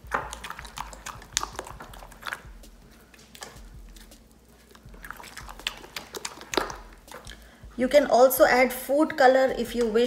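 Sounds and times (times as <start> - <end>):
wet squelches of stirring: 0.0 - 10.0.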